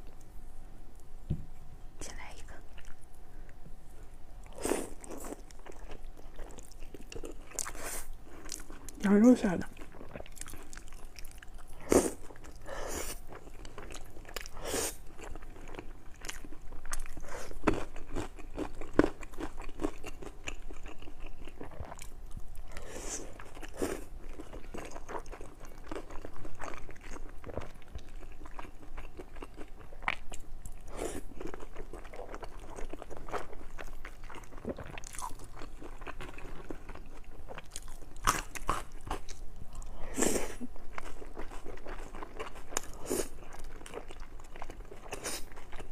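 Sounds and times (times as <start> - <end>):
person chewing: 4.4 - 9.0, 9.8 - 45.9.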